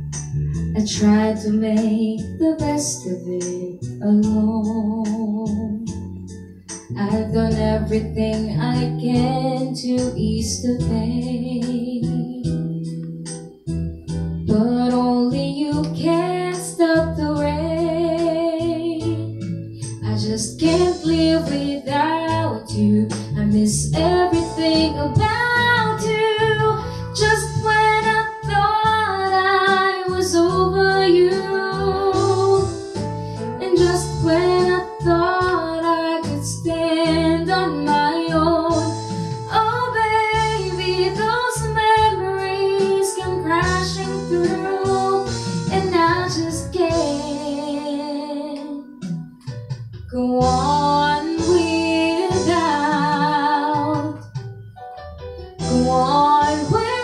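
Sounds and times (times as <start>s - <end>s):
instrumental accompaniment: 0.0s - 57.0s
woman singing: 0.8s - 6.1s, 7.0s - 12.7s, 14.4s - 49.1s, 50.1s - 54.3s, 55.6s - 57.0s.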